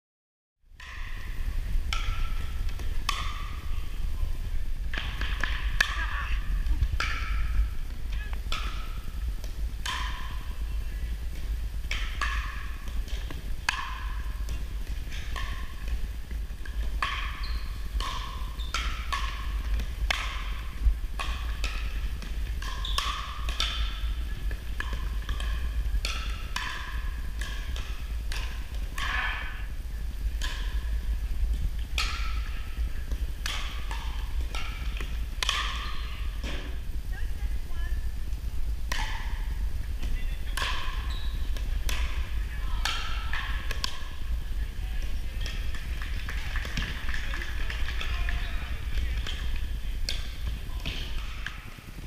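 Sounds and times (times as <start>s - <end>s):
steady low hum: 0.6s - 52.0s.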